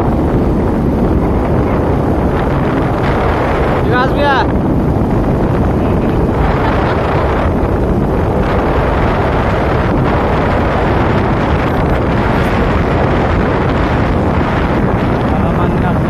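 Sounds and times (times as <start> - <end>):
motorbike engine and road rush: 0.0 - 16.0
wind buffeting microphone: 0.0 - 16.0.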